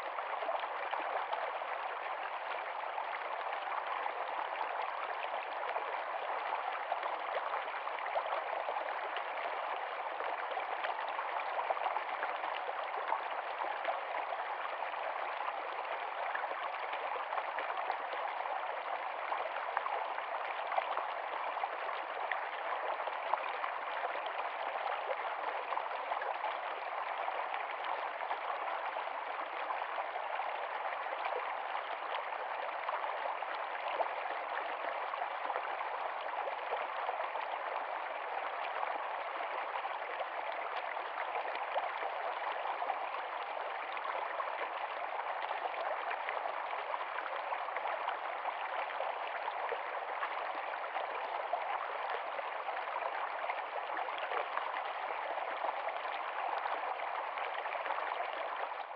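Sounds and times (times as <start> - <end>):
stream running over stones: 0.0 - 58.9.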